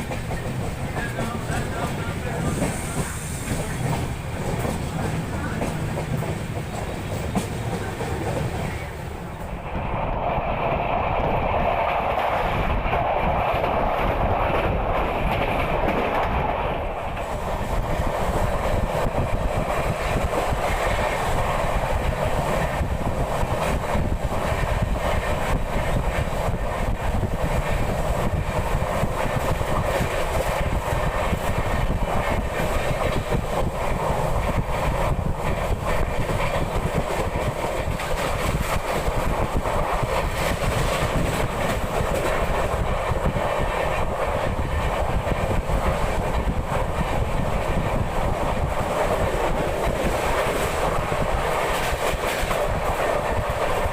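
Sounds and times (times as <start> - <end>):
train coach rumble: 0.0 - 53.9.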